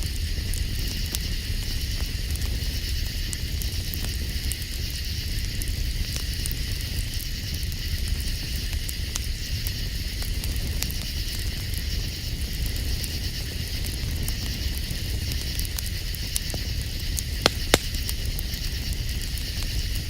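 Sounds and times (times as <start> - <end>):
campfire crackling: 0.0 - 20.0
night insects chirping: 0.0 - 20.0.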